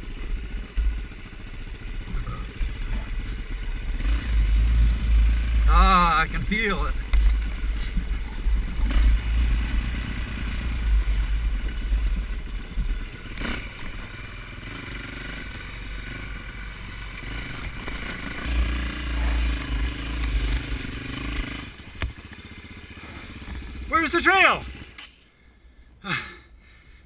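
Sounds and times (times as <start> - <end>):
dirt bike engine running: 0.0 - 26.4.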